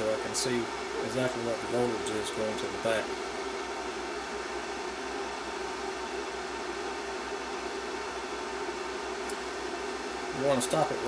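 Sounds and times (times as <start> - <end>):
power supply cooling fan: 0.0 - 11.0.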